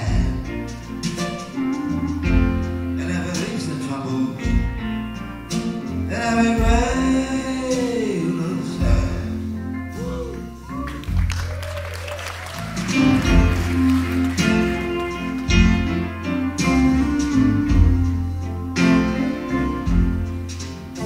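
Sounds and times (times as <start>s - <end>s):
bass line: 0.0s - 21.0s
guitar: 0.0s - 21.0s
live band playing slow song: 0.0s - 21.0s.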